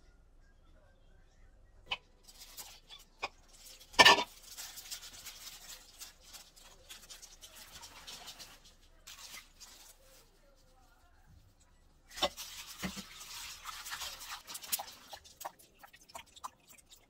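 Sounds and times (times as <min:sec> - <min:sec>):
gloved hand mixing wet seaweed: 0:02.3 - 0:17.0.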